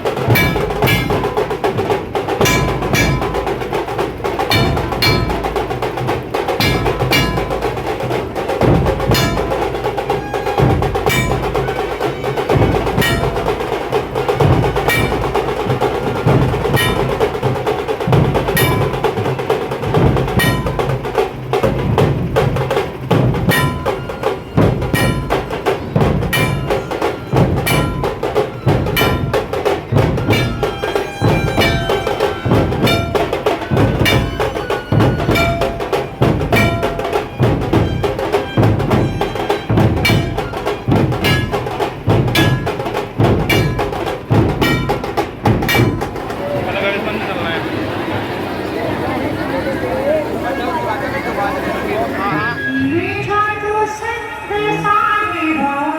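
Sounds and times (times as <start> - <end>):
percussion-led music: 0.0 - 55.8.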